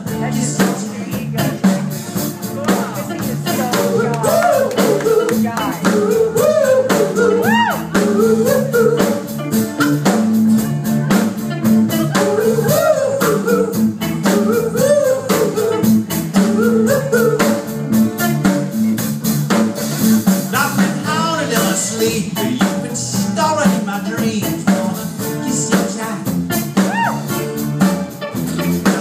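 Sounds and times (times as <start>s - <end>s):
bass line: 0.0s - 29.0s
blues rock band playing: 0.0s - 29.0s
drum kit beat: 0.0s - 29.0s
lead melody with bending notes: 0.0s - 29.0s.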